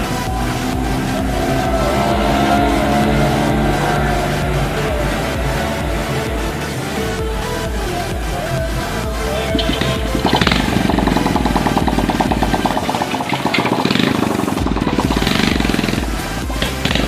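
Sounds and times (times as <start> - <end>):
background music with beat: 0.0 - 17.0
motorcycle engine running: 0.0 - 17.0.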